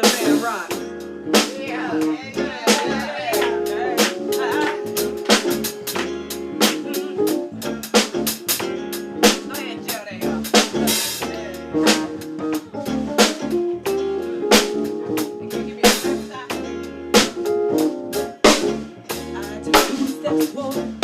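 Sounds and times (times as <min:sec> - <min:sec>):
drum rimshots: 0:00.0 - 0:13.6, 0:14.5 - 0:20.6
live band playing: 0:00.0 - 0:21.0.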